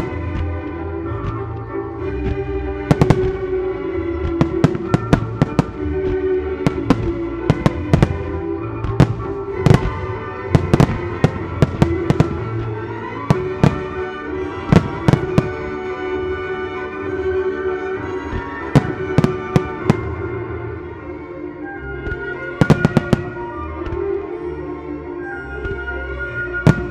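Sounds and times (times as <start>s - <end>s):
fireworks bursting with sharp bangs: 0.0s - 16.9s, 18.0s - 20.8s, 22.0s - 24.2s, 26.6s - 26.9s
music with long held notes: 0.0s - 26.9s.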